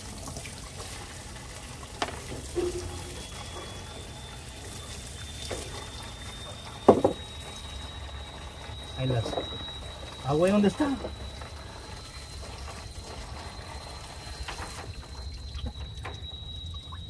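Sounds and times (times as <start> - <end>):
diesel pouring into a tub: 0.0 - 17.0
faint thin whistle: 2.0 - 17.0.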